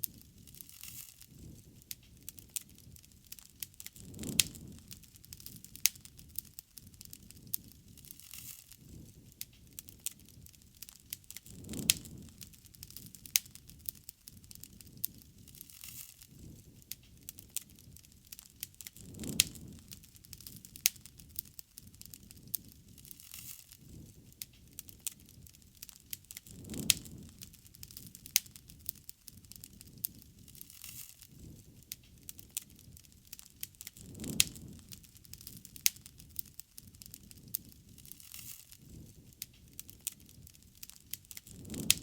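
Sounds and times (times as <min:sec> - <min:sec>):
bonfire crackling and popping: 0:00.0 - 0:42.0.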